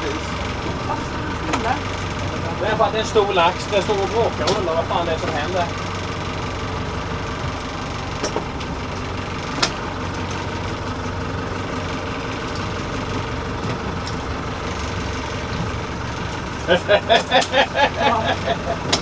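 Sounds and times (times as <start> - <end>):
boat engine running: 0.0 - 19.0
wind: 0.0 - 19.0.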